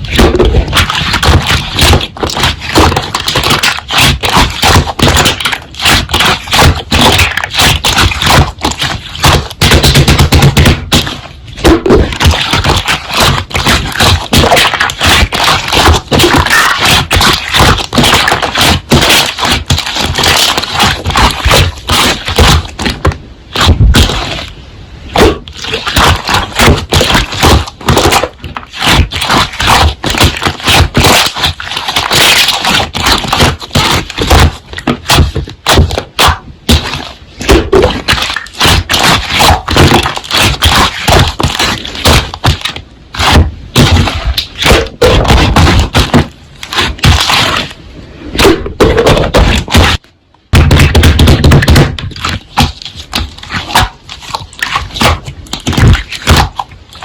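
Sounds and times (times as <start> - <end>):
slime squeezed crackling: 0.0 - 24.5, 25.1 - 47.8, 50.6 - 57.0.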